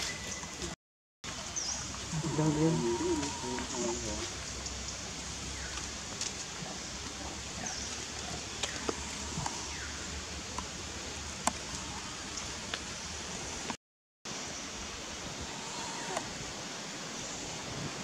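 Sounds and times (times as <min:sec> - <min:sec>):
forest background hiss: 0:01.3 - 0:18.0.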